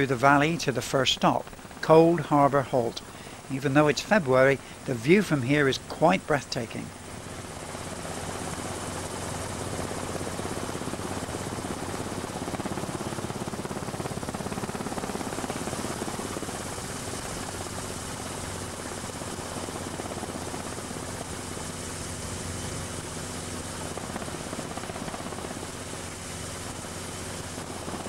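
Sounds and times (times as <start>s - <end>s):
helicopter engine and rotor: 0.0s - 28.0s.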